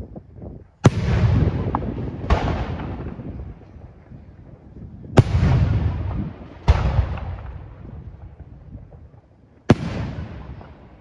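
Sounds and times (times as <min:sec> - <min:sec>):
fireworks bursting with echo: 0:00.8 - 0:11.0.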